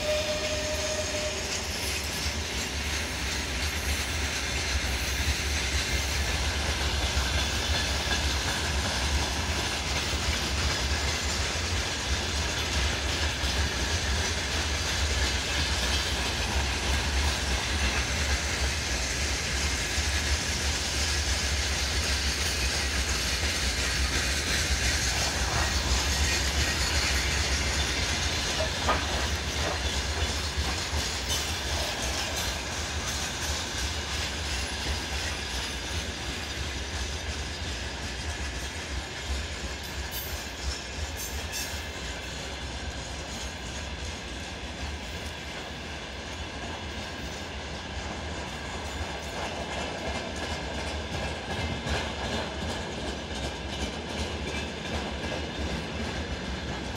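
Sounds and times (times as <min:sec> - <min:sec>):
train wagons rolling on rails: 0:00.0 - 0:56.9.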